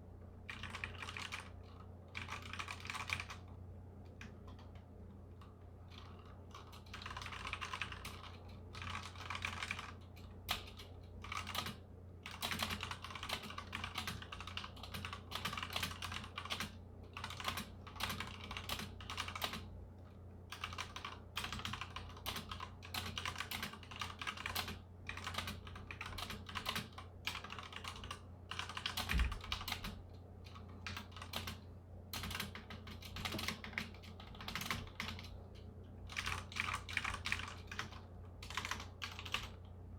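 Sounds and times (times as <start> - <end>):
mechanical keyboard typing: 0.5 - 3.5, 4.1 - 19.7, 20.5 - 39.7.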